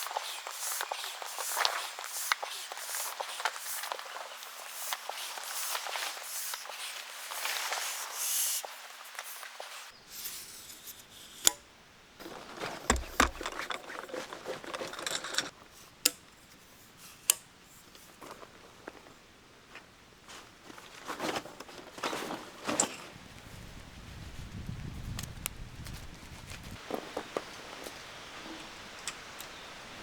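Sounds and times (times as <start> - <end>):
rustling and handling noises: 0.0 - 11.6, 12.2 - 28.9.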